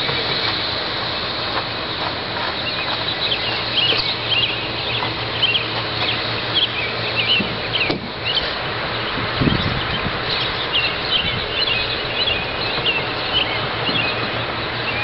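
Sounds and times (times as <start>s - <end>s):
outdoor hiss: 0.0s - 15.0s
small birds chirping: 0.0s - 15.0s.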